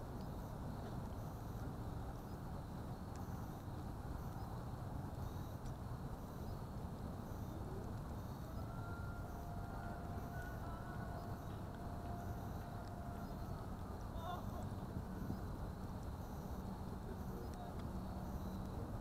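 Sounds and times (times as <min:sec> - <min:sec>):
faint steady tone: 0:00.0 - 0:19.0.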